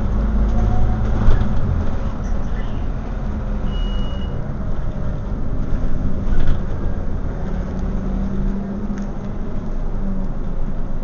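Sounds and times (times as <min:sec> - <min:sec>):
bus diesel engine drone: 0:00.0 - 0:11.0
road rumble: 0:00.0 - 0:11.0.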